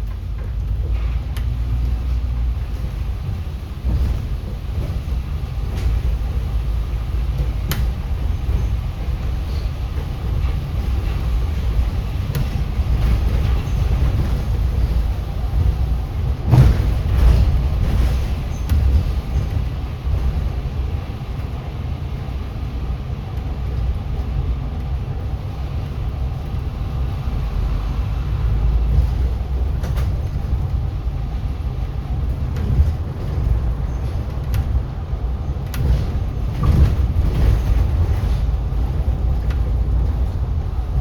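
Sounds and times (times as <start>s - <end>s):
bus body knocks and rattles: 0.0s - 41.0s
bus engine and road rumble: 0.0s - 41.0s.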